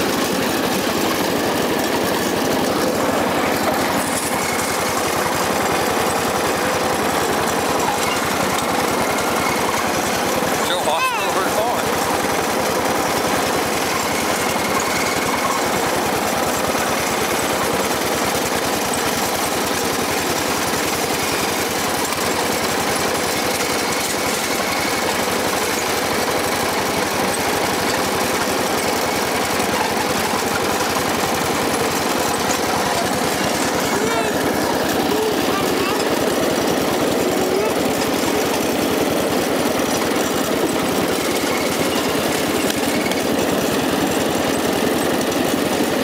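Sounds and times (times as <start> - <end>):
lawn mower engine running: 0.0 - 46.0.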